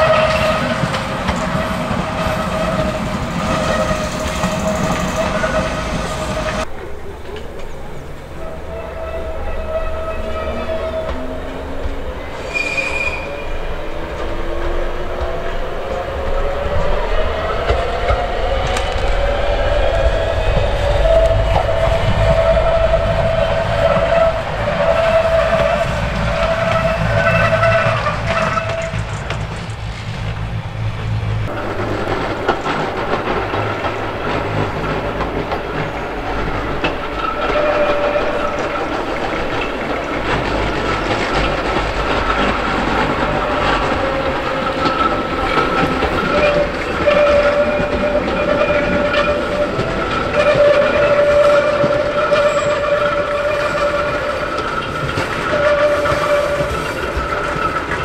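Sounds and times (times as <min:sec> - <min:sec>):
railcar motor whine: 0:00.0 - 0:58.0
railcar wheels rumbling on rails: 0:00.0 - 0:58.0.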